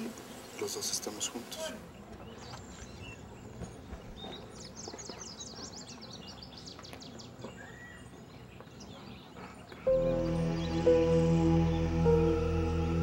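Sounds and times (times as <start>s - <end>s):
bird chirping: 1.9s - 13.0s.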